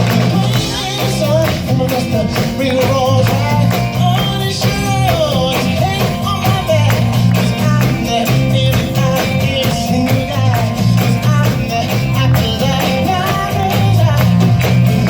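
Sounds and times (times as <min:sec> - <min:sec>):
pop song with band: 0:00.0 - 0:15.0.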